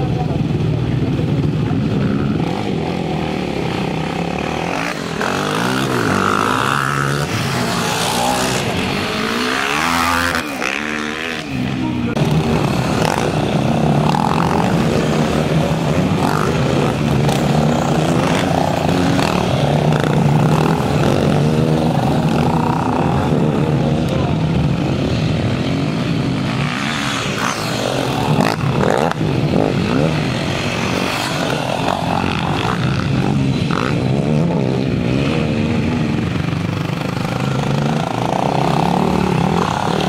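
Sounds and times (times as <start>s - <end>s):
quad engines revving: 0.0s - 40.0s
quads racing on dirt: 0.0s - 40.0s.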